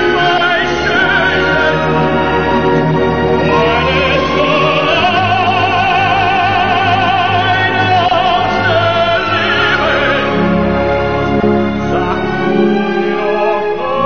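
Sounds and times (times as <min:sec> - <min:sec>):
operatic singing with accompaniment: 0:00.0 - 0:14.0.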